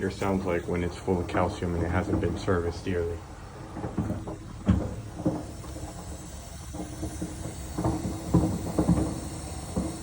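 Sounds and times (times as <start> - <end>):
steady hiss and hum: 0.0 - 10.0
water heater popping and knocking: 0.0 - 10.0.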